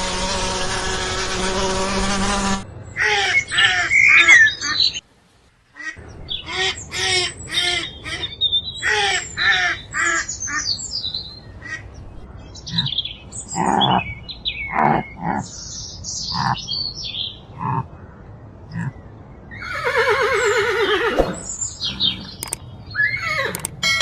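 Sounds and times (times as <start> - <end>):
harsh bird calls: 2.9 - 5.0, 5.8 - 24.0.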